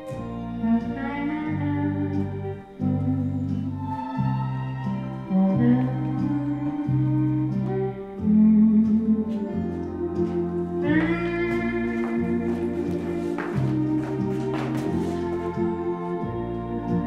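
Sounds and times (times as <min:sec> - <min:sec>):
bass line: 0:00.0 - 0:17.0
sustained chords: 0:00.0 - 0:17.0.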